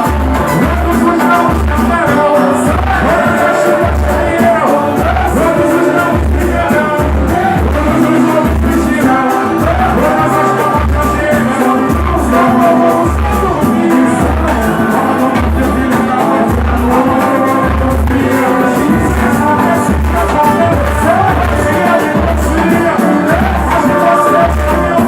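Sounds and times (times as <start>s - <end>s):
deep drum beat: 0.0s - 25.0s
person singing: 0.0s - 25.0s
samba band playing: 0.0s - 25.0s.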